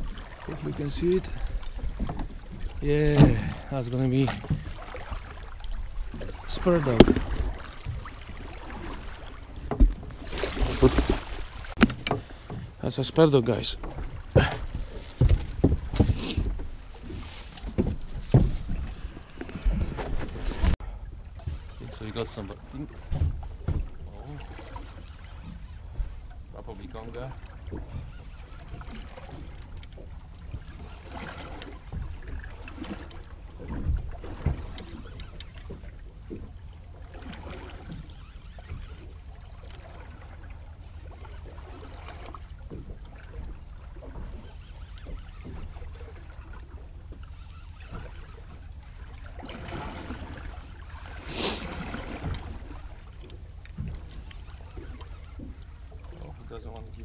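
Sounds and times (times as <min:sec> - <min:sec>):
boat engine low rumble: 0:00.0 - 0:57.0.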